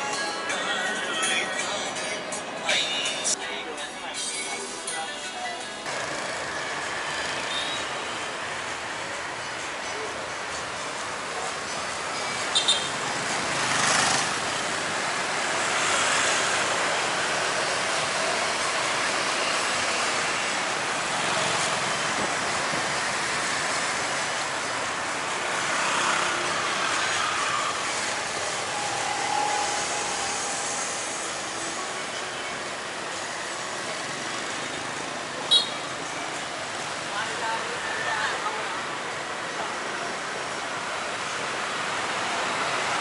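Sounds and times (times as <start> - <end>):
motorbikes and cars passing: 5.8 - 43.0.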